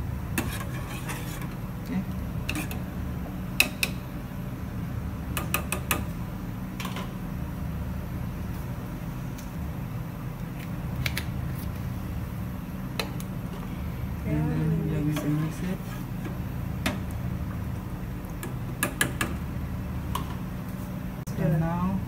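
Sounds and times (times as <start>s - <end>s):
gas burner rumbling: 0.0s - 22.0s.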